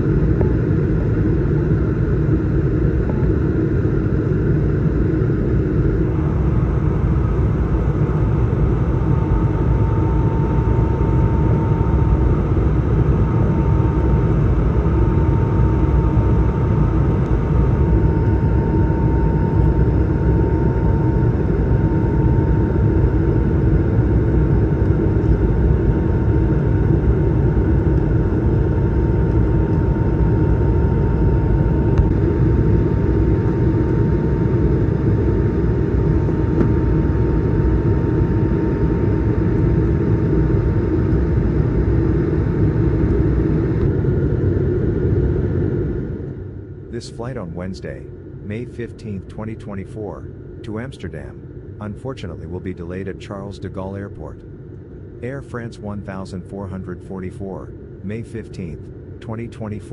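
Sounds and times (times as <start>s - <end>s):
airliner cabin rumble: 0.0s - 49.2s
faint steady whine: 0.0s - 59.9s.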